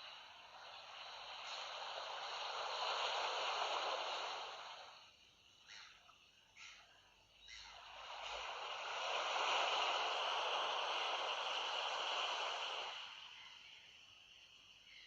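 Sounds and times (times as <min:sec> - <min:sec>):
sea wave washing in: 0:00.0 - 0:05.5, 0:07.6 - 0:14.4.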